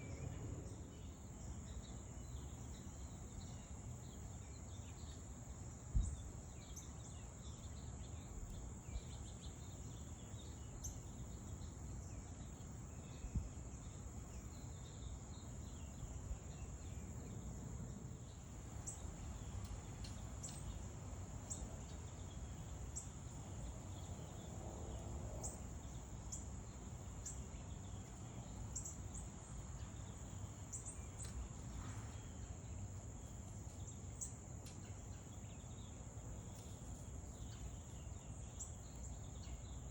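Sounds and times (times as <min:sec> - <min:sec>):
insect trill: 0:00.0 - 0:39.9.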